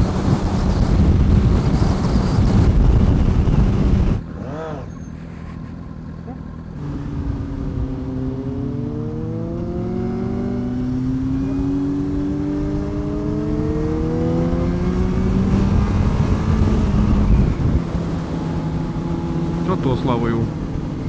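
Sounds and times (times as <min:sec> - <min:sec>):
wind rush: 0:00.0 - 0:04.2, 0:06.8 - 0:21.0
motorcycle engine accelerating: 0:00.0 - 0:21.0.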